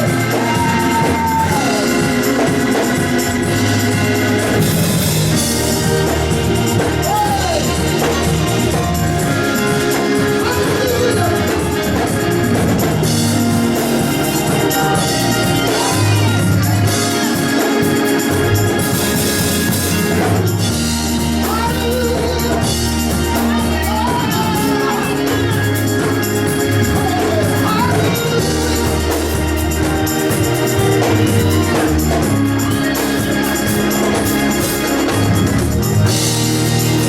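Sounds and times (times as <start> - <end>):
voices singing: 0.0 - 18.8, 20.4 - 37.0
organ chords: 0.0 - 37.0.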